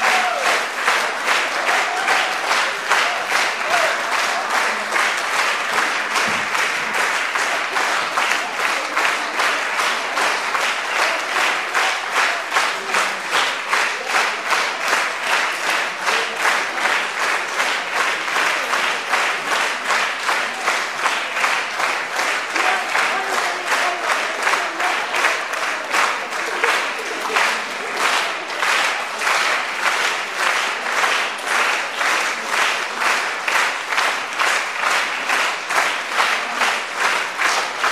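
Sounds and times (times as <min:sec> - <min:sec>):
audience clapping rhythmically: 0:00.0 - 0:37.9.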